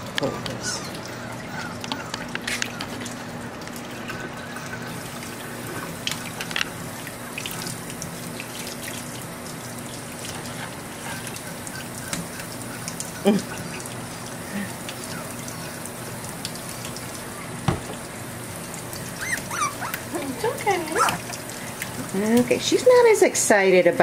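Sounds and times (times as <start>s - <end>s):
water spattering: 0.0s - 23.4s
faucet water running into sink: 0.0s - 24.0s.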